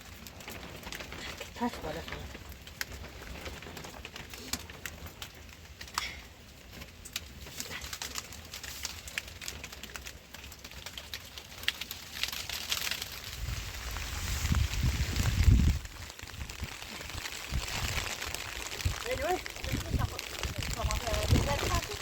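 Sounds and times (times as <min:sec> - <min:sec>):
rain pattering and dripping: 0:00.0 - 0:22.0.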